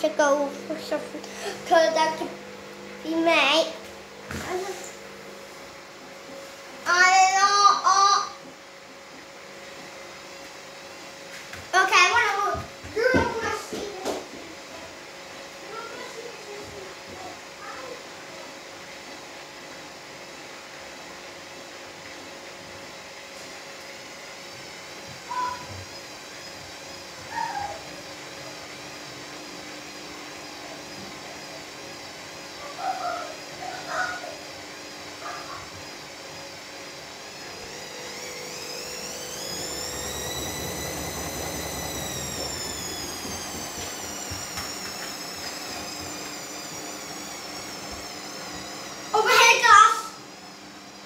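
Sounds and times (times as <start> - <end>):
washing machine running: 0.0 - 51.0.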